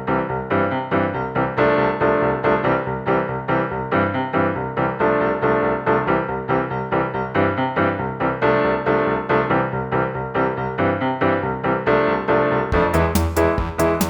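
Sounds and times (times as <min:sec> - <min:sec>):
piano-like keyboard music: 0:00.0 - 0:14.0.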